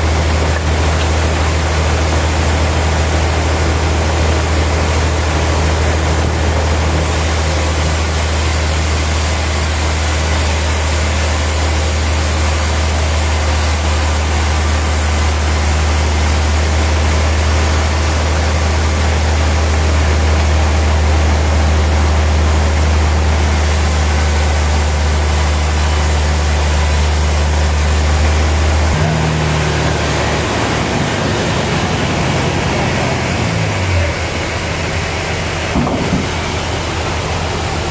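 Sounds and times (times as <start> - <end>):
machine slowing down: 0.0 - 37.9
sawmill machinery running: 0.0 - 37.9.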